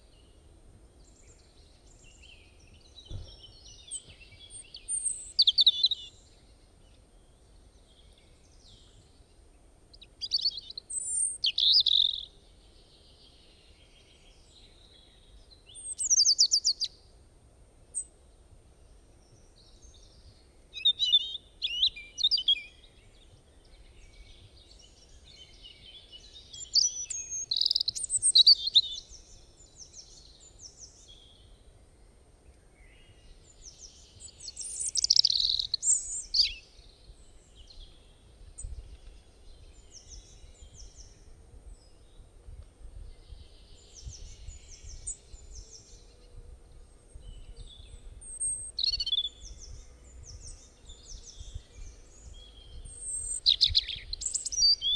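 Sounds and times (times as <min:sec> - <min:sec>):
birds chirping and twittering: 0:00.0 - 0:17.1, 0:17.9 - 0:54.9.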